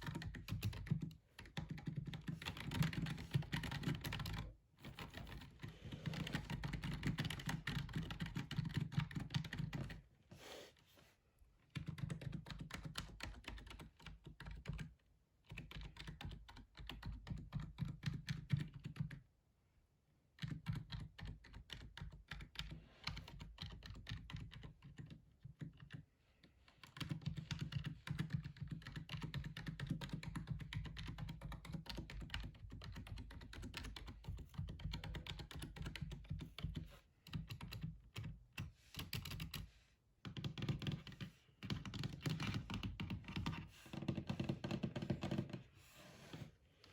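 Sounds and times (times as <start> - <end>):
fast typing on keyboard: 0.0 - 10.0, 11.7 - 19.2, 20.4 - 26.0, 26.8 - 39.6, 40.2 - 45.6.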